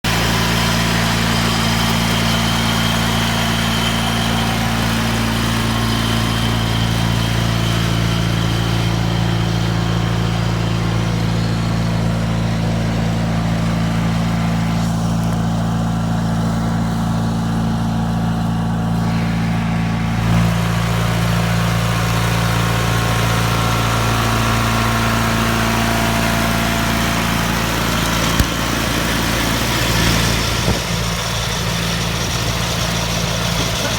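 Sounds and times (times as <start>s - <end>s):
garden tractor engine running: 0.0s - 33.9s.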